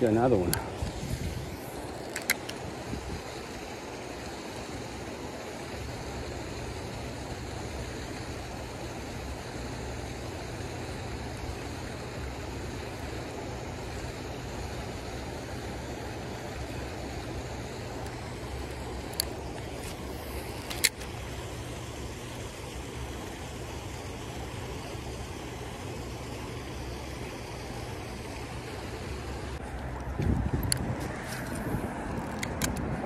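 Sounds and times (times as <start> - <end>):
creek water flowing: 0.0 - 33.0.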